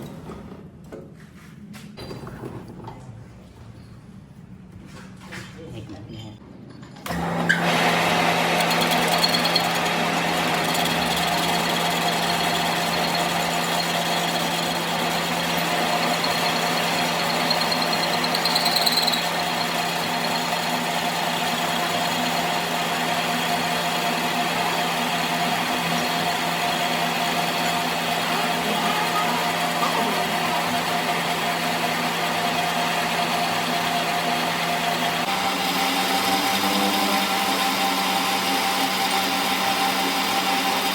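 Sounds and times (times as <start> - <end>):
workshop machine humming: 7.0 - 40.9.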